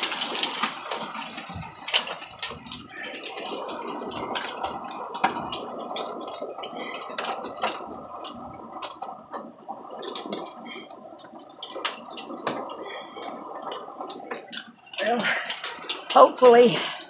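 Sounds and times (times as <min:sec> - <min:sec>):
heavy rain patter: 0:00.0 - 0:17.0
rain ticks on roof and window: 0:00.0 - 0:17.0.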